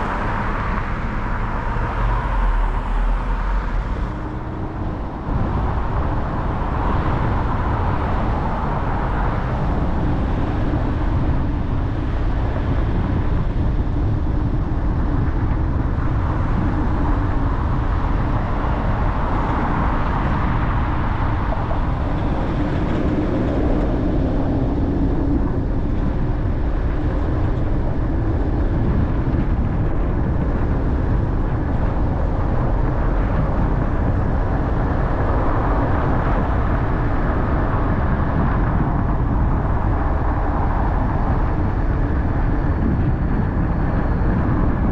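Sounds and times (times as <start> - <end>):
car engine hum: 0.0 - 44.9
road and tyre noise: 0.0 - 44.9.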